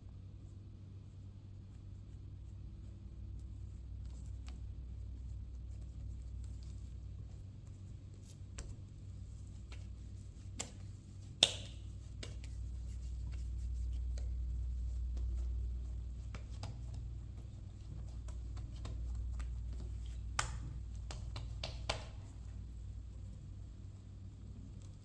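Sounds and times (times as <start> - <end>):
steady low hum: 0.0 - 25.0
hands patting dough: 0.4 - 25.0.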